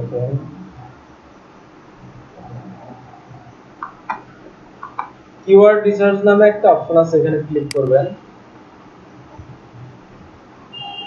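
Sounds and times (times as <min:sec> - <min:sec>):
microphone hiss: 0:00.0 - 0:11.0.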